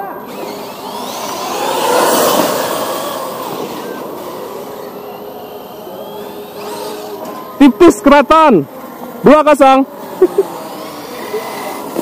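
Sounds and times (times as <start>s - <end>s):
rc truck motor whine: 0.0s - 12.0s.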